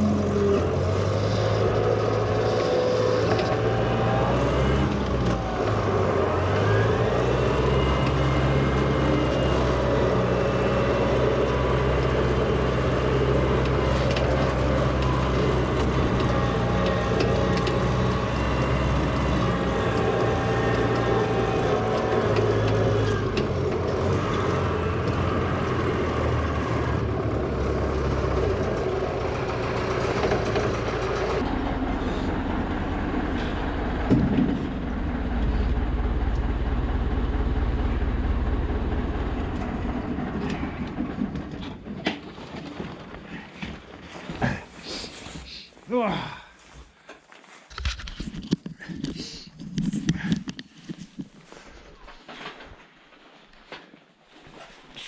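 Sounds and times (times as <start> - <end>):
wheel loader engine running: 0.0 - 44.6.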